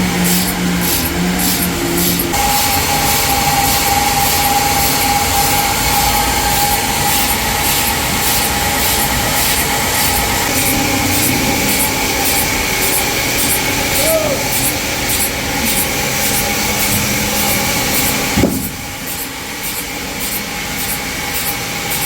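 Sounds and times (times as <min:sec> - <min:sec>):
sawmill cutting log: 0:00.0 - 0:22.0.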